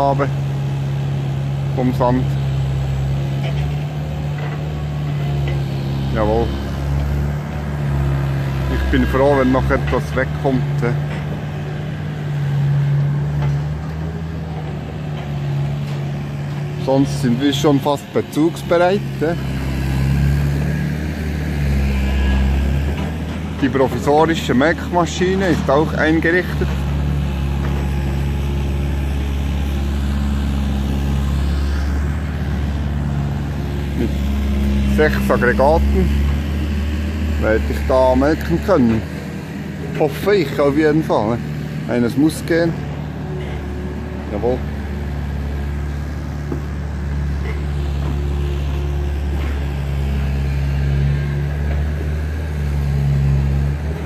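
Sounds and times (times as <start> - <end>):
machine humming: 0.3 - 53.8.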